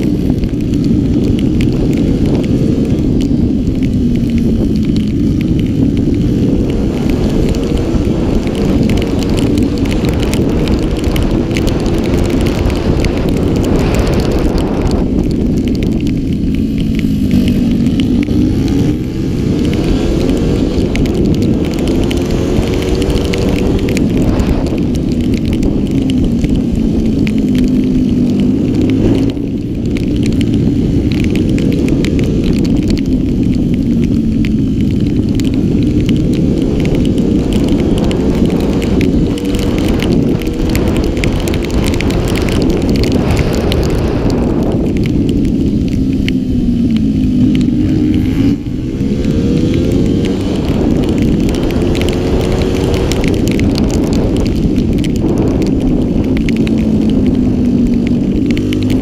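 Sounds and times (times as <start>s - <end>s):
motorcycle engine revving: 0.0s - 59.0s
wind on microphone: 0.0s - 59.0s.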